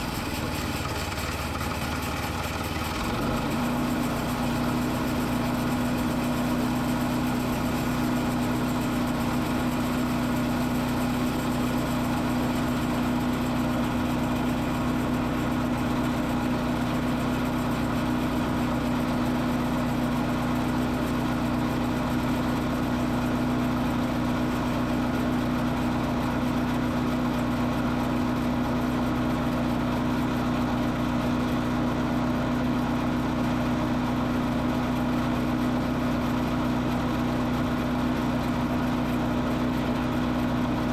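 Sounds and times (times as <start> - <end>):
heavy equipment engine droning: 0.0 - 40.9.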